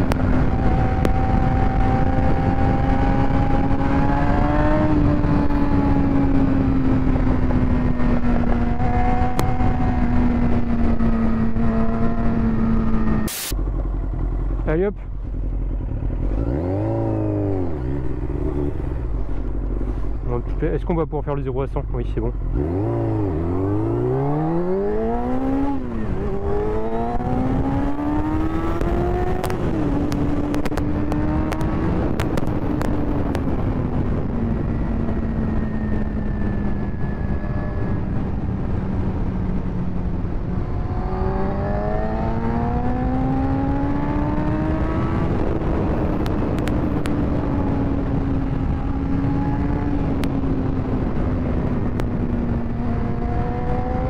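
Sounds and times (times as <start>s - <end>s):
wind rush on microphone: 0.0s - 13.6s, 22.3s - 54.0s
motorcycle engine accelerating: 0.0s - 21.2s, 21.8s - 54.0s.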